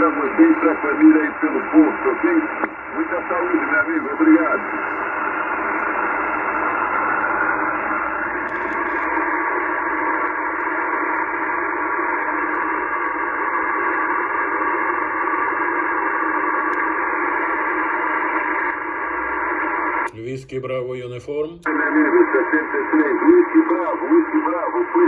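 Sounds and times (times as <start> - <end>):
radio receiver static hiss: 0.0 - 25.0.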